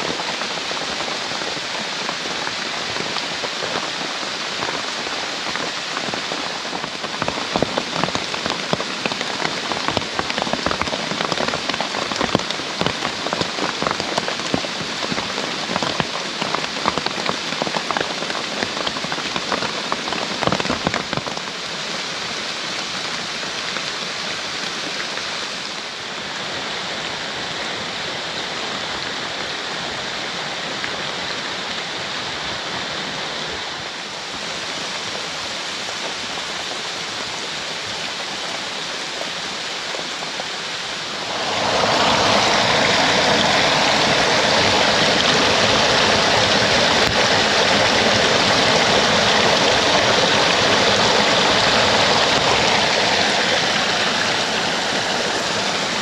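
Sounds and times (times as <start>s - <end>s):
raindrops ticking on a surface: 0.0s - 26.0s, 34.0s - 56.0s
heavy rain falling: 0.0s - 56.0s.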